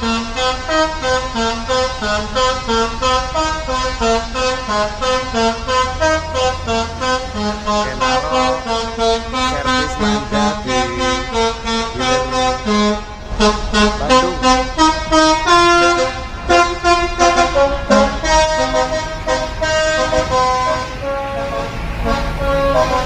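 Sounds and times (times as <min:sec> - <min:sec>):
bus musical air horn melody: 0:00.0 - 0:23.0.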